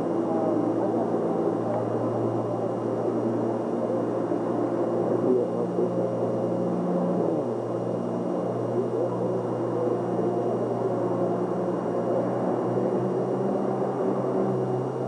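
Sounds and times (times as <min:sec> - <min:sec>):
low humming drone: 0:00.0 - 0:15.0.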